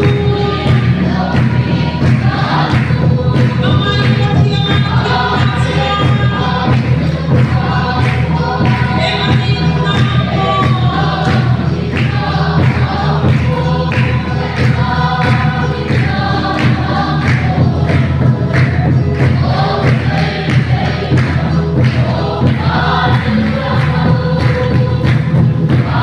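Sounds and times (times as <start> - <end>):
group singing a hymn: 0.0 - 26.0
steady drum beat: 0.0 - 26.0.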